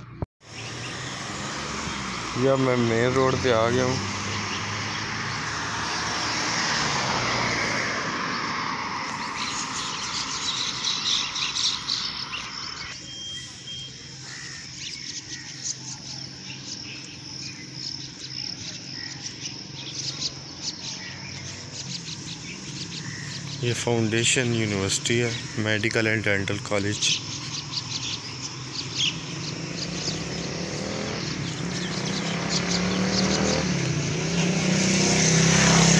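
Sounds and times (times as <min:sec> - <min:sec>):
birds chirping: 0:00.0 - 0:35.9
car passing: 0:00.5 - 0:12.9, 0:16.3 - 0:35.9.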